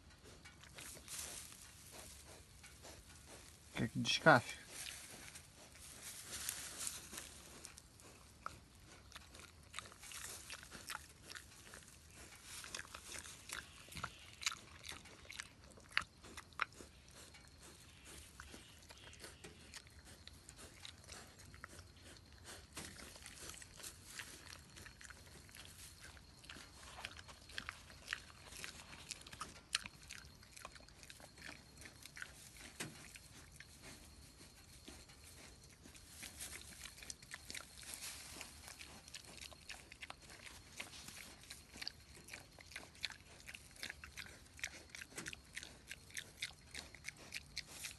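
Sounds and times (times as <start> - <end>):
piglet chewing clicks: 0.0 - 3.6, 7.4 - 33.9, 38.4 - 47.9.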